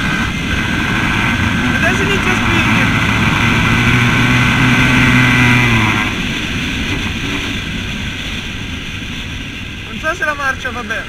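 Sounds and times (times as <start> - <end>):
motorcycle engine under throttle: 0.0 - 9.6
wind rushing past: 0.0 - 9.9.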